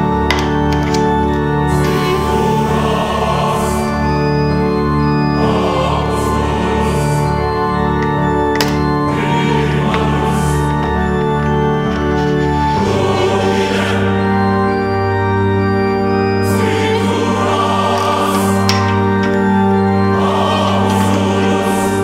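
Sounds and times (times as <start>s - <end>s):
slow sustained music chords: 0.0s - 22.0s.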